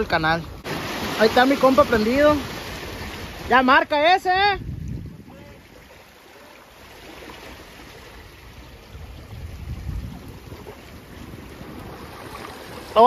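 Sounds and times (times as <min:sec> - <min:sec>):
sea waves washing against concrete: 0:00.0 - 0:13.0.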